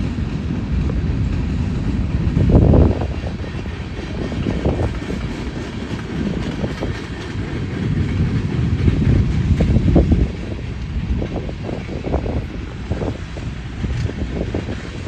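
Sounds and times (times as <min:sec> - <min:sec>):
train clanks: 0:00.0 - 0:15.0
train wheels rumbling on rail: 0:00.0 - 0:15.0.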